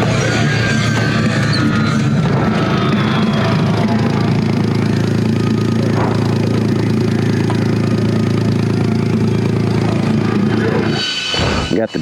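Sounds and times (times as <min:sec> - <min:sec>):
buggy engine idling: 0:00.0 - 0:11.2.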